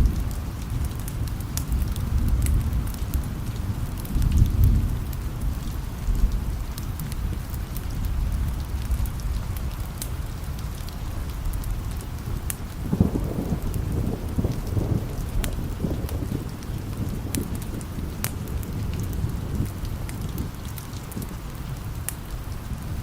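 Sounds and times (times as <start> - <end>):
rolling thunder: 0.0 - 9.8, 11.0 - 23.0
steady rain: 0.0 - 23.0.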